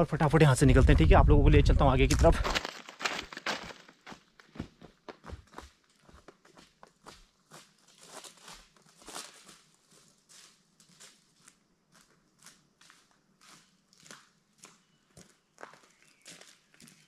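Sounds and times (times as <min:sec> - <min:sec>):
faint footsteps: 0:02.1 - 0:17.0.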